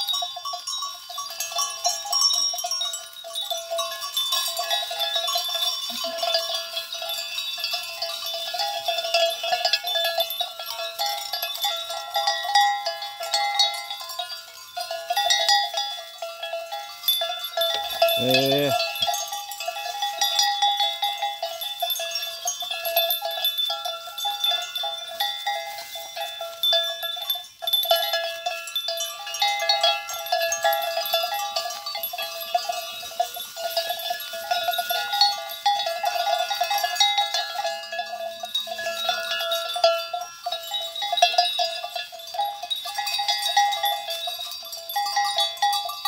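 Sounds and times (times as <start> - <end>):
goat bells clanking: 0.0 - 46.0.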